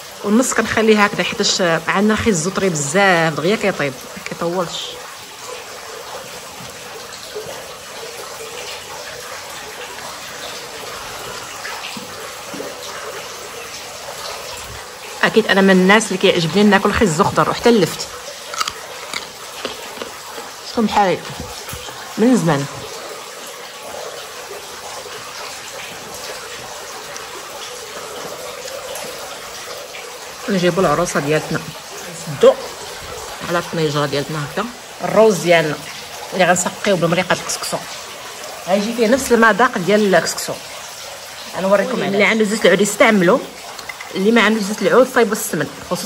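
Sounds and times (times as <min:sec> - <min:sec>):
water: 0:00.0 - 0:46.0.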